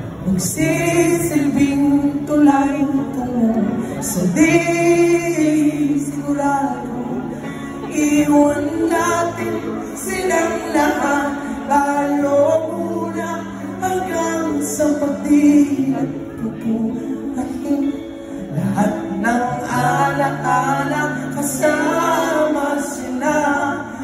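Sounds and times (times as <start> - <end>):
guitars: 0.0 - 24.0
person singing: 0.0 - 24.0.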